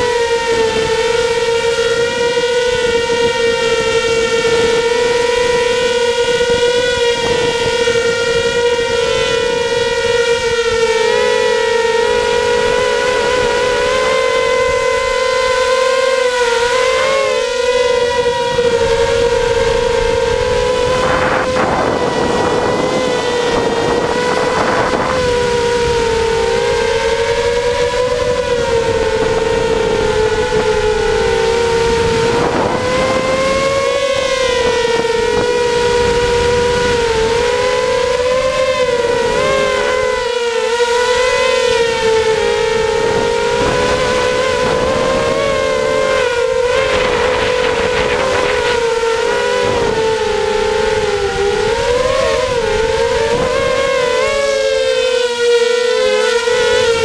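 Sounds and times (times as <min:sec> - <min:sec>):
propeller wash rushing: 0:00.0 - 0:57.0
quadcopter motors whining: 0:00.0 - 0:57.0.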